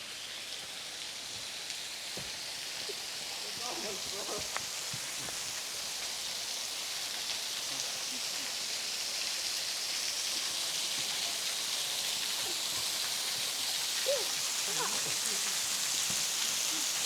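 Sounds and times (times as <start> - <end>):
waterfall rushing: 2.0 - 17.0.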